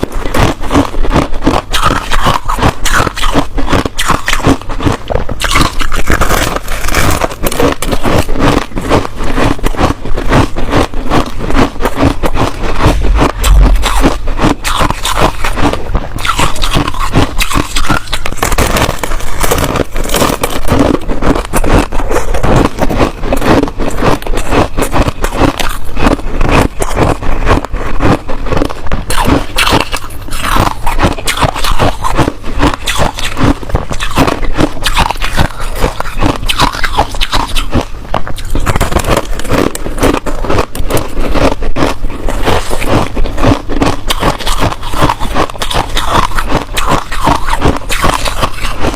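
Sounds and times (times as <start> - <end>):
chewing ice crunches: 0.0 - 48.9.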